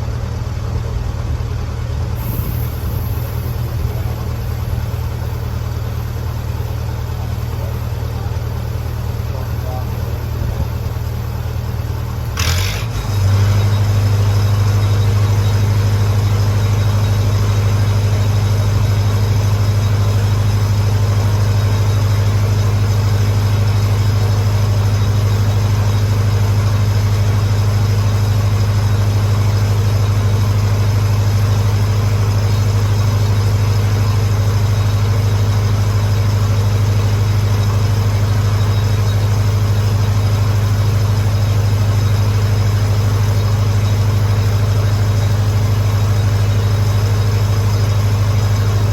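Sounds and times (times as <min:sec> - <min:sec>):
welder engine running: 0:00.0 - 0:48.9.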